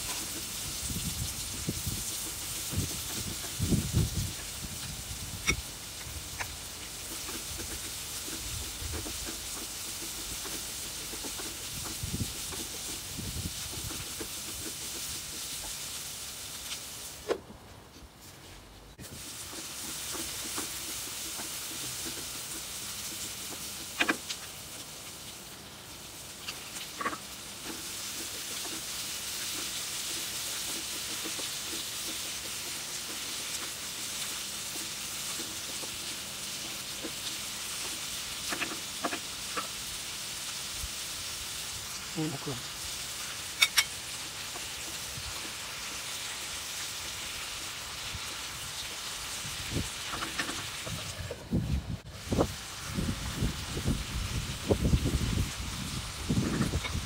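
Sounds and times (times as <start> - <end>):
onions sizzling in frying pan: 0.0 - 17.4, 18.9 - 57.0.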